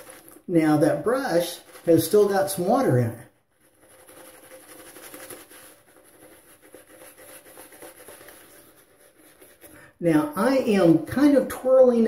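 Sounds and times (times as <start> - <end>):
shaving brush wet brushing: 0.0 - 10.9.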